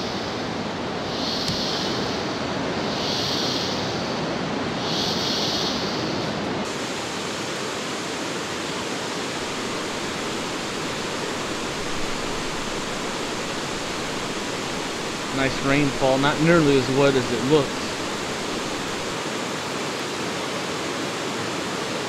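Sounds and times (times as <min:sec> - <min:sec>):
waterfall roaring: 0:03.7 - 0:22.0.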